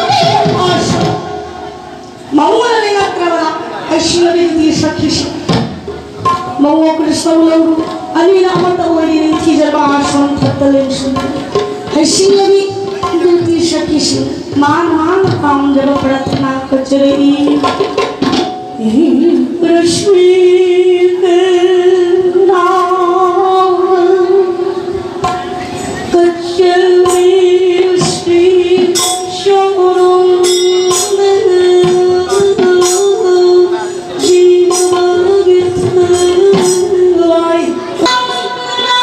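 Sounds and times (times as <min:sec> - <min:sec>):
sharp percussion strokes: 0:00.0 - 0:20.1, 0:24.5 - 0:39.0
women singing devotional chant: 0:02.3 - 0:05.6, 0:06.6 - 0:17.8, 0:18.8 - 0:25.0, 0:26.1 - 0:39.0.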